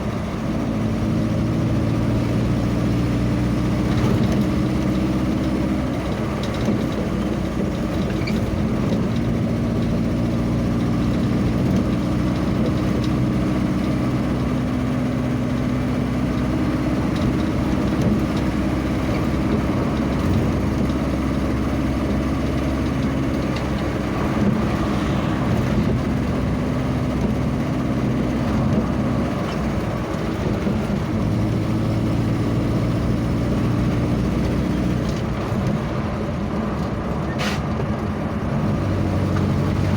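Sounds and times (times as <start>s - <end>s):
road noise: 0.0s - 39.9s
vehicle engine humming: 0.0s - 39.9s.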